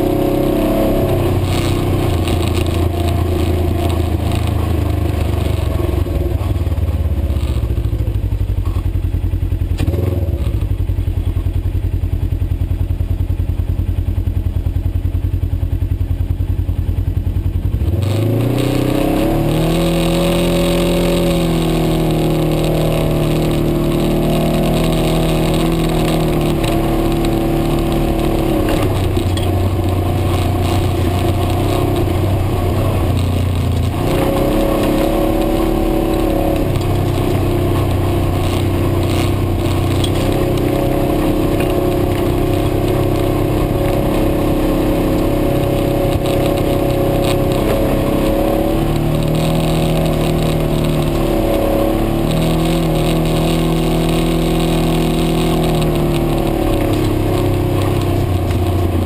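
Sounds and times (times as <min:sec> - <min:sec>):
utility vehicle engine running: 0:00.0 - 0:59.0.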